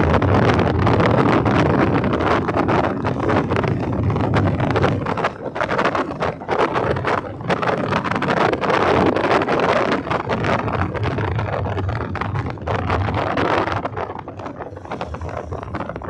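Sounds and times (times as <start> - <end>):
engine and road rumble: 0.0 - 16.0
wind buffeting microphone: 0.0 - 16.0.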